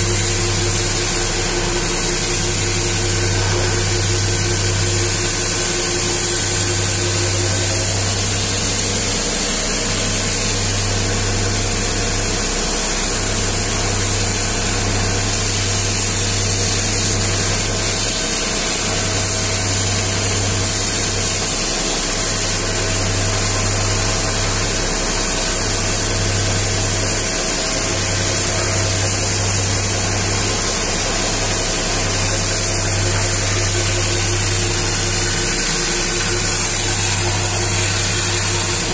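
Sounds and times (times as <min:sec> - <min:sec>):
low washer hum: 0:00.0 - 0:38.9
pressure washer jet hissing: 0:00.0 - 0:38.9.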